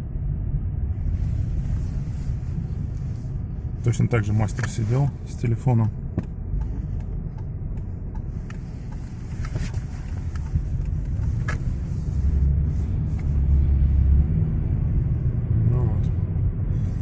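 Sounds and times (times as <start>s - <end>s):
road rumble inside car: 0.0s - 17.0s.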